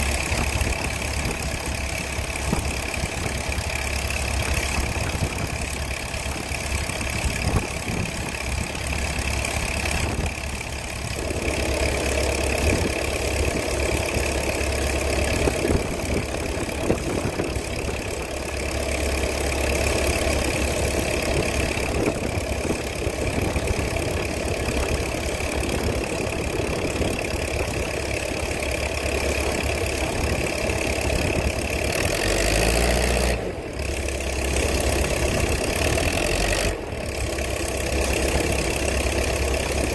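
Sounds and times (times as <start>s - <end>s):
combine harvester machinery running: 0.0s - 39.9s.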